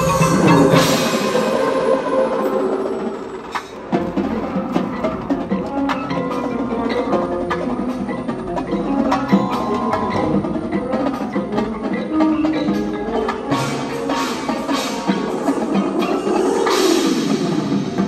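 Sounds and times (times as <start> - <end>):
marimbas and mallet percussion: 0.0 - 18.0.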